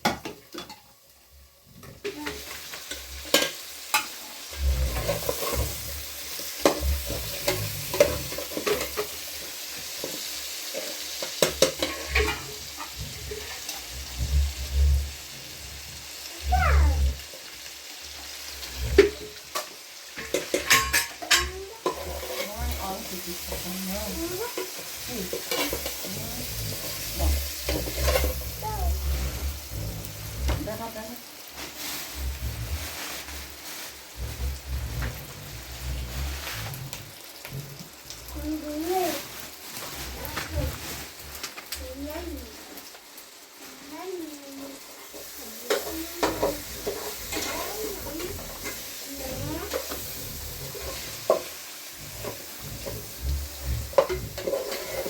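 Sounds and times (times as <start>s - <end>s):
food sizzling in a pan: 0.0s - 55.0s
utensil stirring against pan: 0.0s - 55.0s.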